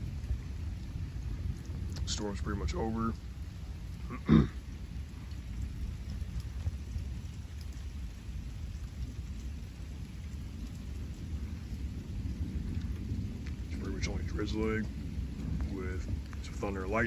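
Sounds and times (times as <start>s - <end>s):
light rain drizzling: 0.0s - 17.0s
thunder rumbling: 0.0s - 17.0s.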